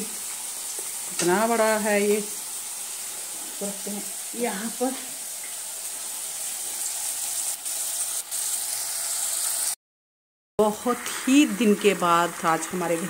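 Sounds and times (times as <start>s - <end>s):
food sizzling in hot oil: 0.0s - 9.8s, 10.6s - 13.0s.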